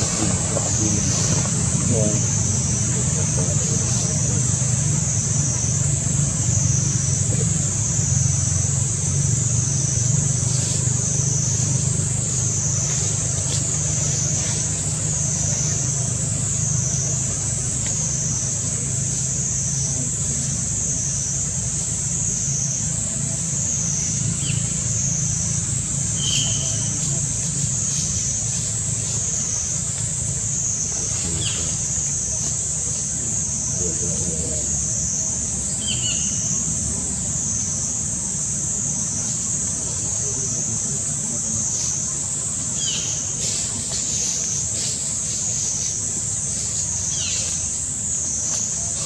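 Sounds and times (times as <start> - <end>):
low steady rumble: 0.0 - 49.0
shrill insect chorus: 0.0 - 49.0
vehicle engine humming: 0.0 - 49.0.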